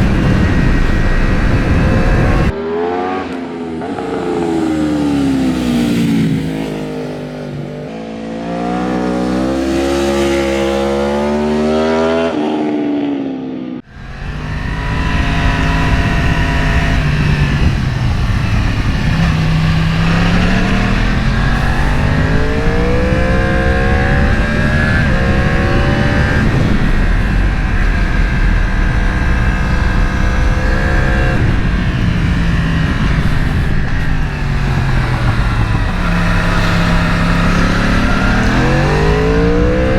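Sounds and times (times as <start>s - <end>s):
wind rush: 0.0s - 8.2s, 13.8s - 39.9s
motorcycle engine revving: 0.0s - 39.9s.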